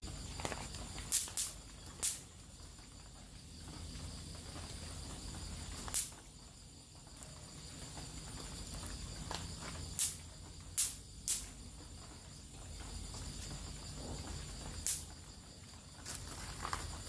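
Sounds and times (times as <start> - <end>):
electric racket zapping insects: 0.0 - 17.0
high insect trilling: 0.1 - 17.0.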